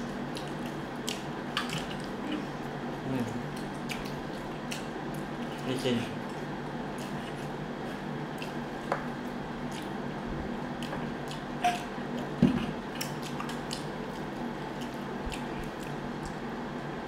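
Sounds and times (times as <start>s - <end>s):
wet chewing sounds: 0.0s - 16.5s
steady low hum: 0.0s - 17.0s.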